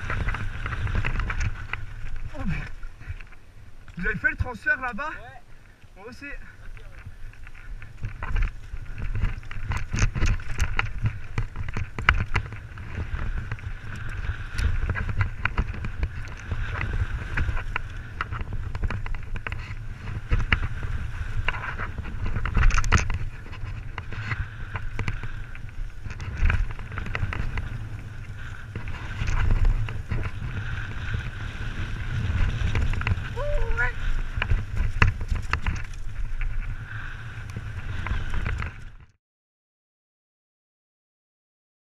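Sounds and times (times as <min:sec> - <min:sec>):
bike knocking and rattling: 0:00.0 - 0:05.2, 0:06.8 - 0:39.1
bike tyres on dirt and stones: 0:00.0 - 0:39.2
wind rumble on microphone: 0:00.0 - 0:39.2.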